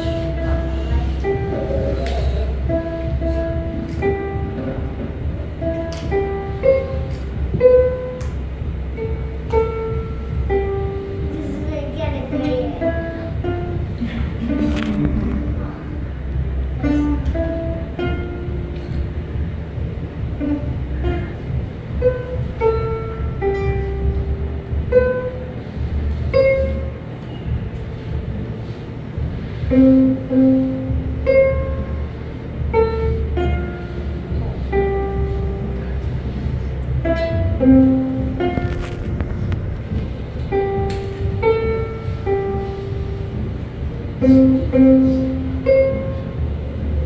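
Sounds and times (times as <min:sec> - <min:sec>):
plucked ukulele accompaniment: 0:00.0 - 0:28.2, 0:29.4 - 0:47.0
low room rumble: 0:00.0 - 0:47.0
slow instrumental melody: 0:00.0 - 0:47.0.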